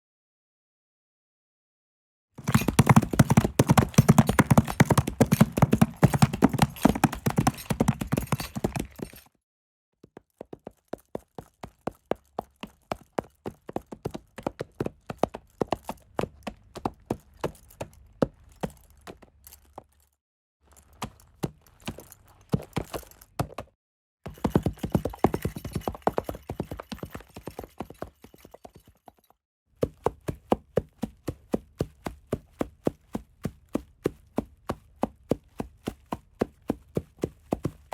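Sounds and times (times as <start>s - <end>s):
horse hooves clip-clopping: 2.4s - 9.3s, 10.0s - 20.1s, 20.7s - 23.7s, 24.3s - 37.9s.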